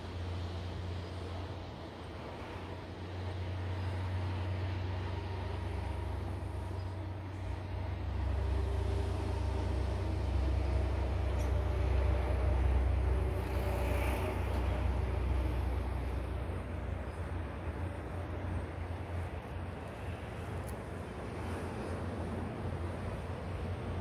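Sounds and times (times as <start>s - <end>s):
distant jet engines rumbling: 0.0s - 24.0s
faint engine whine: 0.0s - 24.0s.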